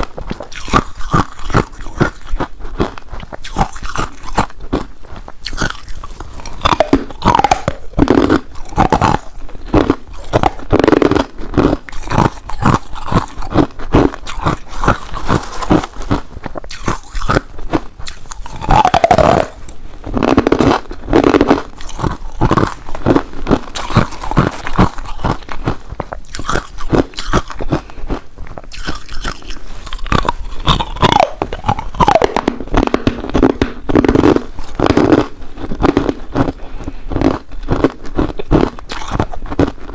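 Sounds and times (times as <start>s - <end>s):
ice crunched between teeth: 0.0s - 39.9s.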